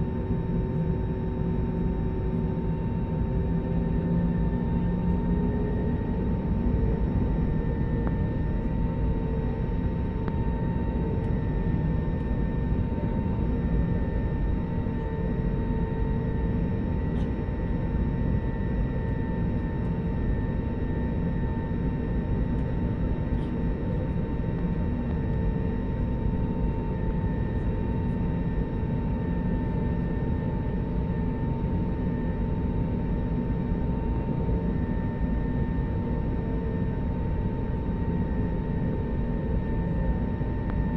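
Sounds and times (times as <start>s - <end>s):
constant whine: 0.0s - 40.9s.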